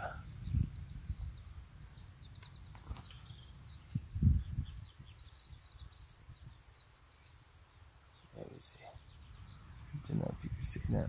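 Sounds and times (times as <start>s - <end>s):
small bird chirping: 0.0s - 10.4s.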